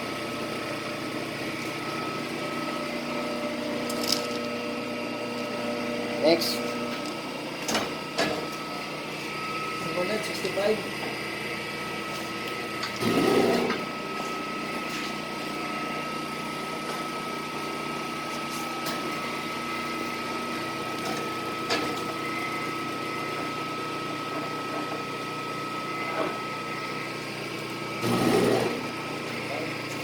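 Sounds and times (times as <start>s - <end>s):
lathe humming with high tone: 0.0s - 30.0s.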